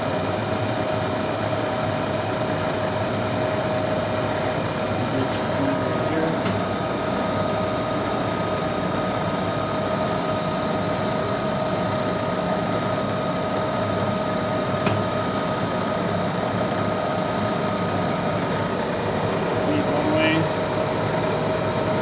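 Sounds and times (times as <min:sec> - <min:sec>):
lathe motor hum: 0:00.0 - 0:22.0
steady whine: 0:00.0 - 0:22.0.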